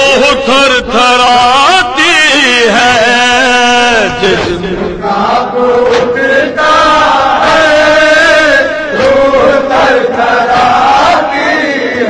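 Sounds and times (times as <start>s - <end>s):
voices chanting a lament: 0.0s - 12.0s.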